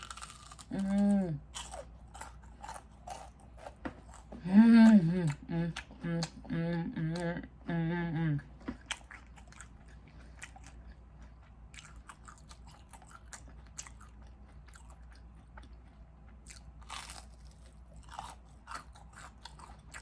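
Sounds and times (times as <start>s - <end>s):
chewing crispy fried food: 0.0s - 6.5s, 8.7s - 20.0s.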